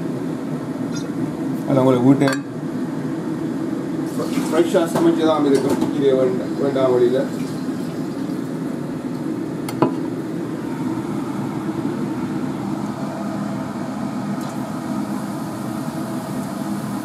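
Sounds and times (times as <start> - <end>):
kitchen fan whirring: 0.0 - 17.0.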